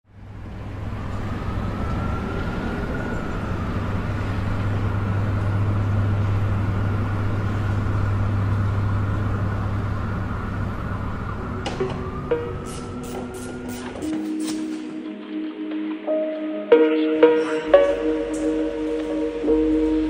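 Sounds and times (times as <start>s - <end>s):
vehicle engine humming: 0.1s - 14.3s, 17.7s - 20.0s.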